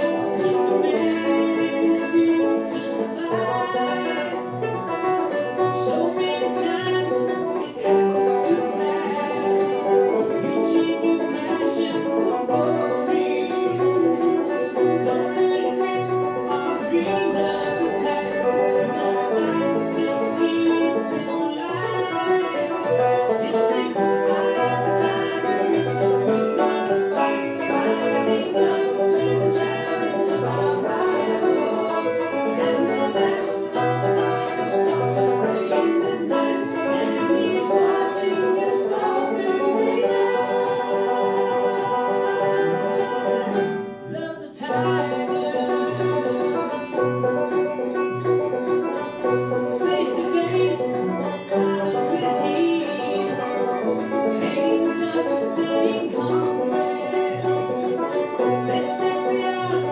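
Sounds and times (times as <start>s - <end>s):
banjo picking: 0.0s - 59.9s.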